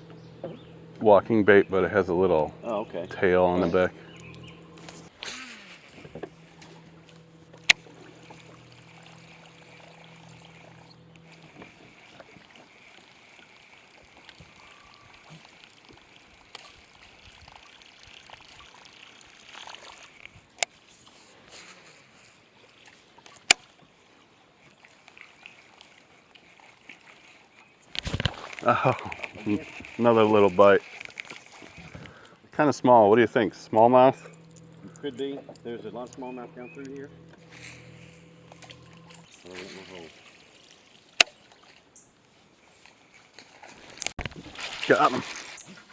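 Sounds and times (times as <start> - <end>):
low steady hum: 0.0 - 22.7, 24.7 - 45.9
water trickling and lapping: 0.0 - 45.9.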